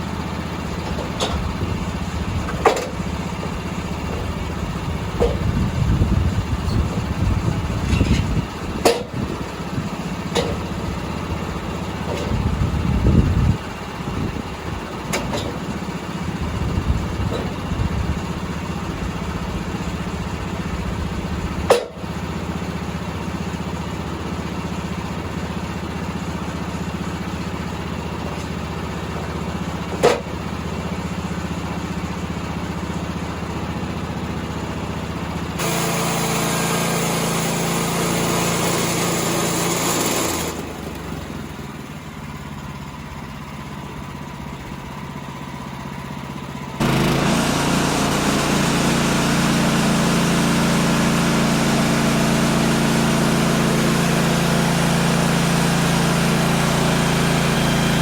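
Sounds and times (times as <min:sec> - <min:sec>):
sawmill gas engine running: 0:00.0 - 0:58.0.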